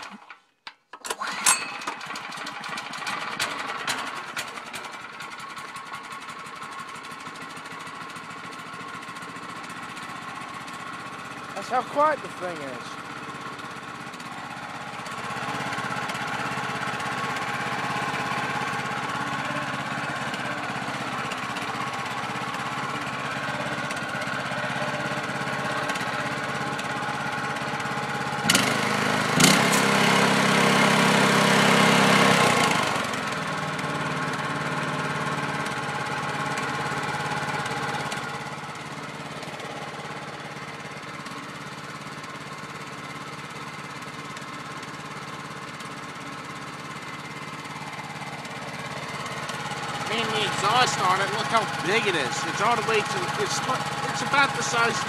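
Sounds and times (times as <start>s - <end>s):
small engine idling: 0.0s - 55.0s.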